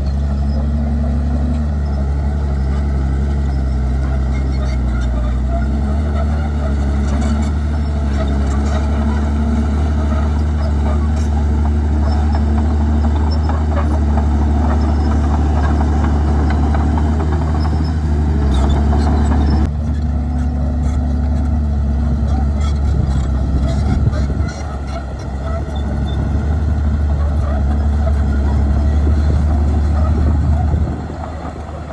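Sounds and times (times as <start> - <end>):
bulldozer diesel engine running: 0.0 - 31.9.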